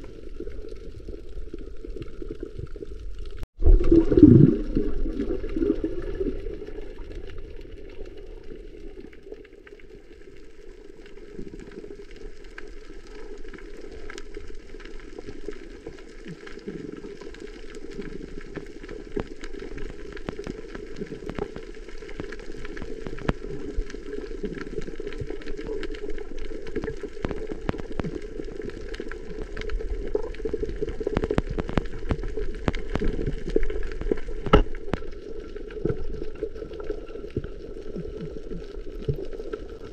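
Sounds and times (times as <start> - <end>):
muffled underwater rush: 0.0 - 39.9
reef clicks and crackles: 0.0 - 39.9.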